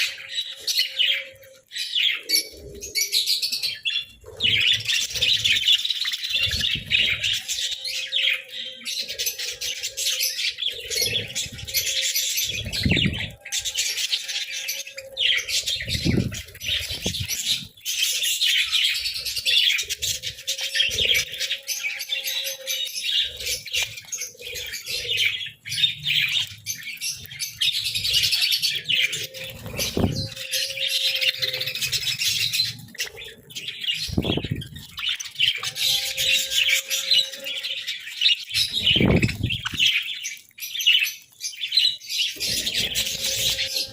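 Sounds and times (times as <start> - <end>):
parakeets chattering and warbling: 0.0 - 43.9.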